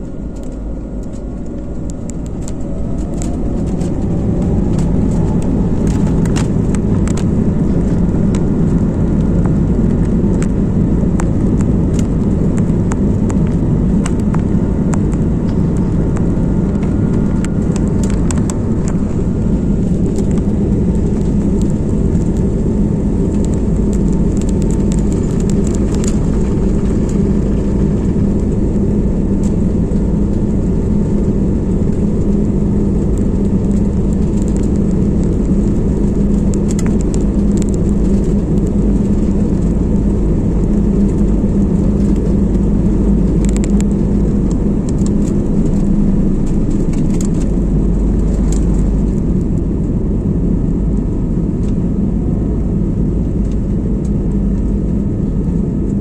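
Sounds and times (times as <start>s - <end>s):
jet engines rumbling: 0.0s - 56.0s
rising whine: 0.0s - 56.0s.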